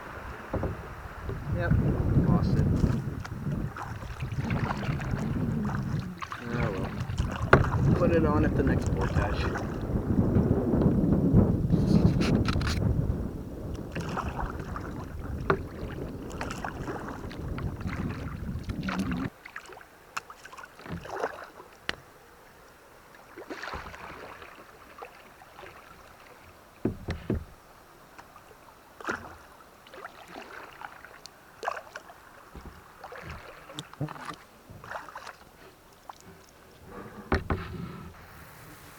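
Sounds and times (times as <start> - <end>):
paddle splashing in water: 0.0 - 38.9.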